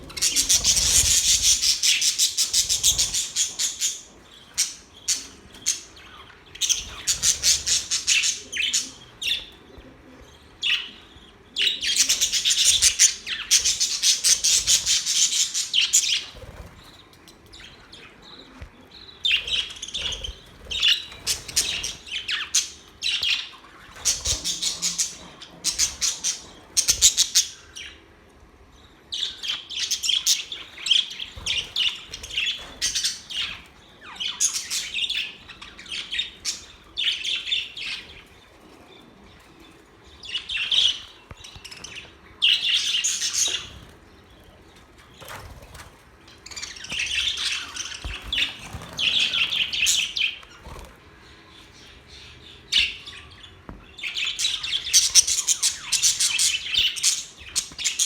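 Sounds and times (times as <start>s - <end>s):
budgerigars chirping and singing: 0.0s - 28.1s, 29.1s - 58.0s.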